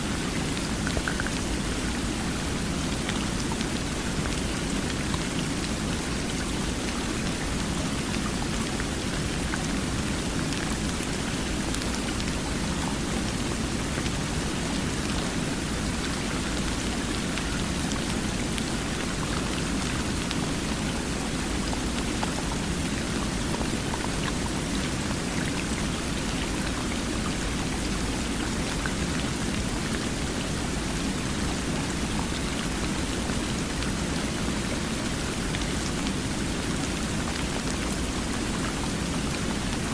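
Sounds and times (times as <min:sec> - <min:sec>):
faint drip-like ticks: 0:00.0 - 0:39.9.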